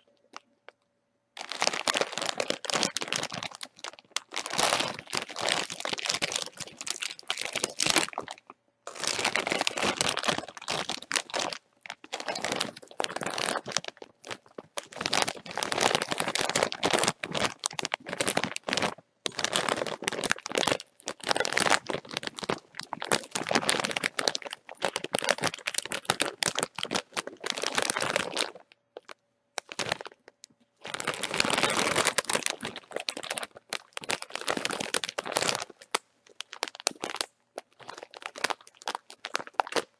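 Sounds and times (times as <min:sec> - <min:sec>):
chip bag crinkling: 0:01.4 - 0:30.2, 0:30.8 - 0:39.9.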